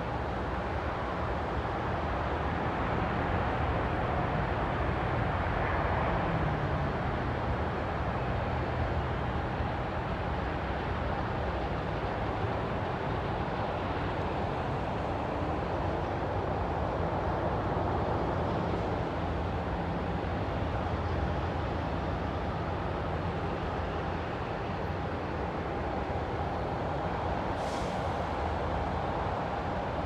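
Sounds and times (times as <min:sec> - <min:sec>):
distant aircraft engines: 0:00.0 - 0:30.0
road traffic rumble: 0:00.0 - 0:30.0.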